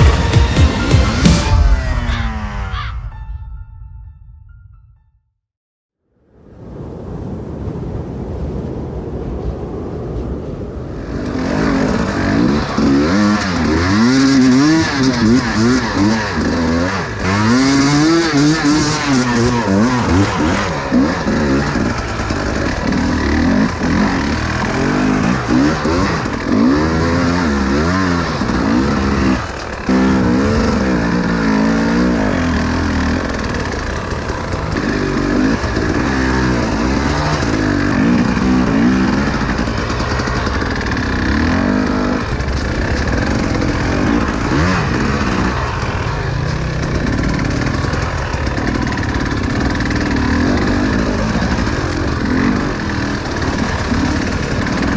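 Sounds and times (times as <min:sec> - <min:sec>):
motorcycle engine revving: 0:00.0 - 0:02.9, 0:10.9 - 0:54.9.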